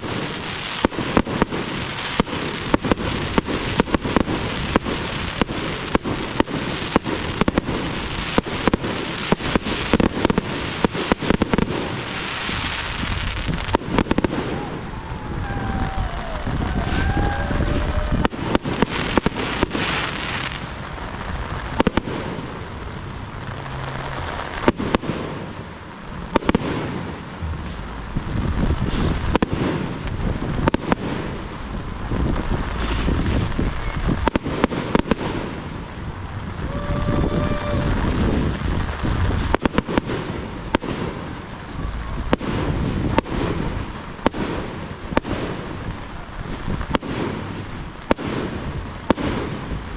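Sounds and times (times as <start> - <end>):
fireworks crackling: 0.0 - 49.9.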